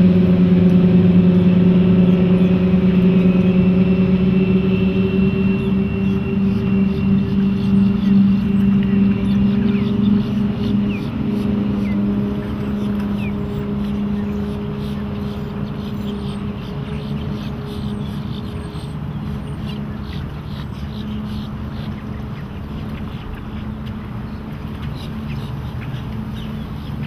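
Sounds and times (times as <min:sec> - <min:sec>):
boat engines droning: 0:00.0 - 0:27.0.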